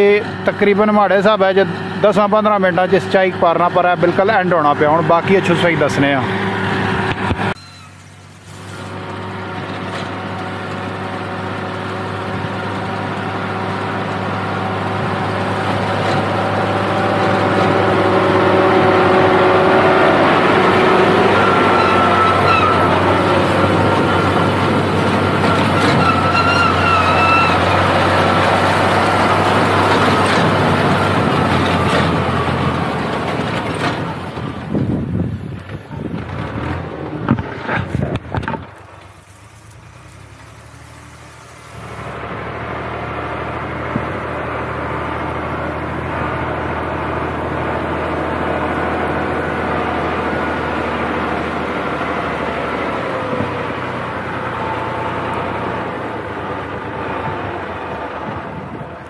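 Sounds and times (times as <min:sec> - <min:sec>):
tractor diesel engine: 0:00.0 - 0:59.0.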